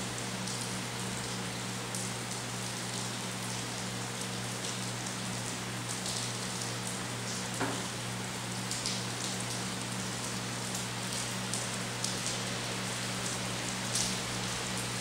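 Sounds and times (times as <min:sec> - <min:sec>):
close raindrops: 0:00.1 - 0:15.0
rain falling: 0:00.1 - 0:15.0.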